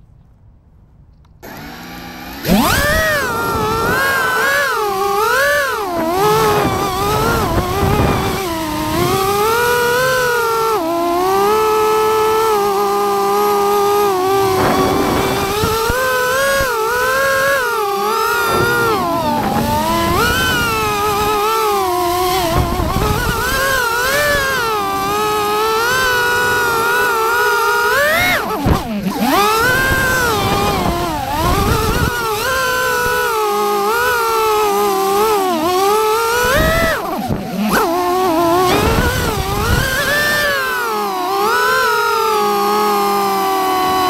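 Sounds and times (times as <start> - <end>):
drone motors buzzing whine: 1.3 - 44.0.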